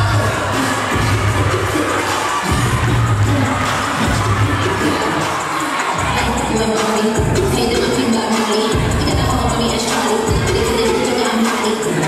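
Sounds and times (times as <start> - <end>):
crowd noise: 0.0 - 12.0
loud music with deep bass: 0.0 - 12.0.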